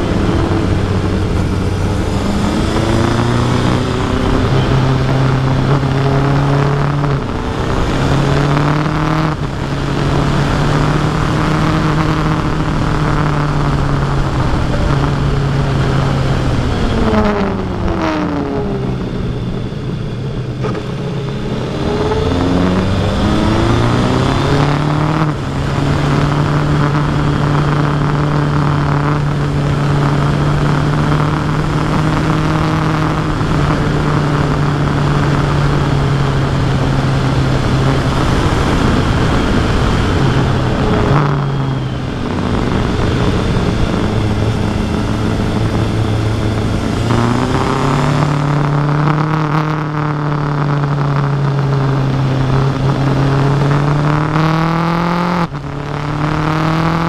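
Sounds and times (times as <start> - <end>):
motorcycle engine running: 0.0 - 57.0
rushing wind: 0.0 - 57.0.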